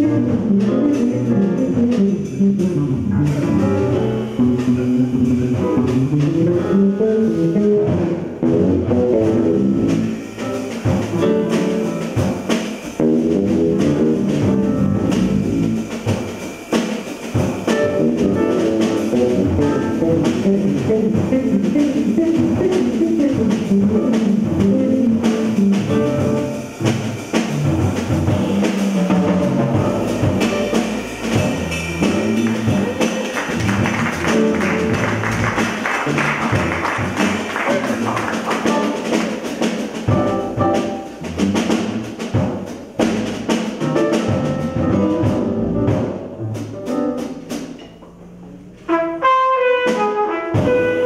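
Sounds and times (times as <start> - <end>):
electric bass guitar: 0.0 - 16.3, 17.4 - 39.1, 40.0 - 48.9
drum kit with cymbals: 0.0 - 51.0.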